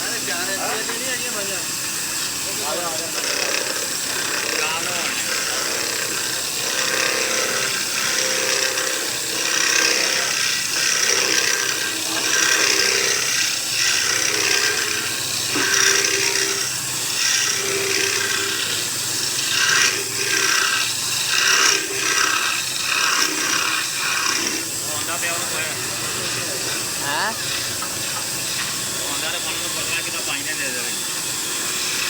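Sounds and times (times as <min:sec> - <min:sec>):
power tool cutting wood: 0:00.0 - 0:32.0.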